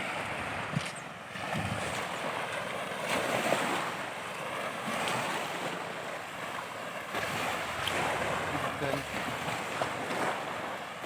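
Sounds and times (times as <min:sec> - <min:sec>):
ocean waves crashing on shore: 0:00.0 - 0:11.0.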